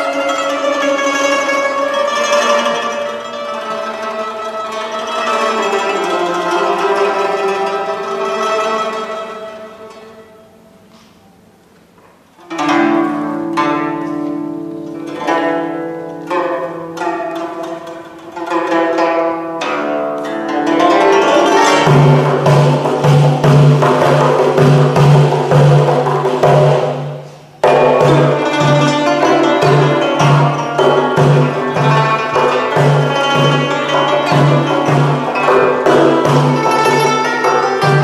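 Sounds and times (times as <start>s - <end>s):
guzheng plucked notes: 0.0s - 38.0s.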